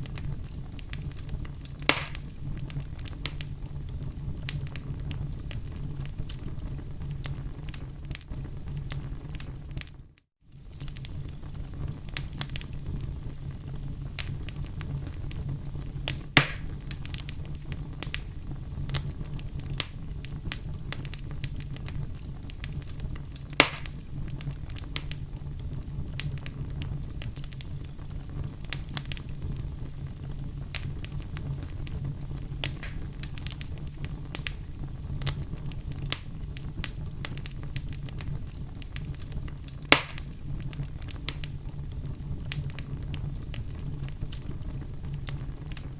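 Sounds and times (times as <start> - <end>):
loud fire pops: 0.0 - 45.9
wood fire crackling: 0.0 - 45.9.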